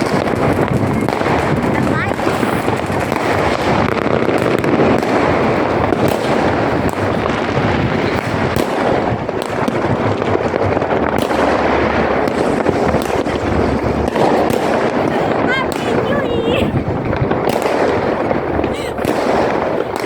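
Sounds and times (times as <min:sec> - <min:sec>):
fireworks banging and crackling: 0:00.0 - 0:20.0.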